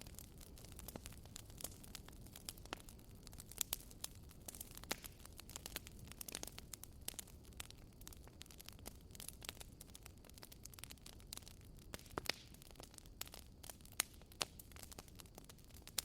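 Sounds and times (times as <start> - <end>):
low rumble of burning logs: 0.0 - 16.0
wood fire pops and snaps: 0.0 - 16.0.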